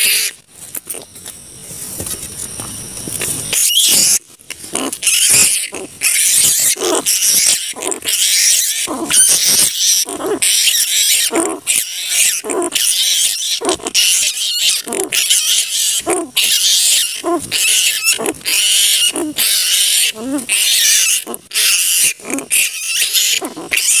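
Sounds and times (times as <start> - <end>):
flying foxes screeching: 0.0 - 0.4, 3.5 - 24.0
harsh low squawks: 2.9 - 24.0.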